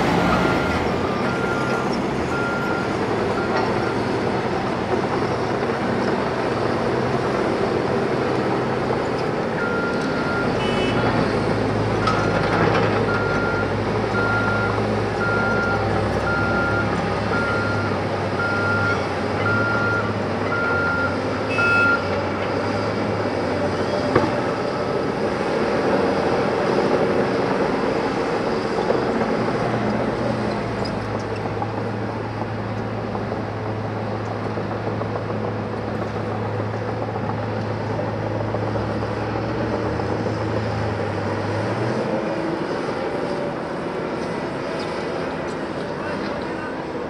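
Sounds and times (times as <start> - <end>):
heavy machinery diesel engines: 0.0 - 47.0.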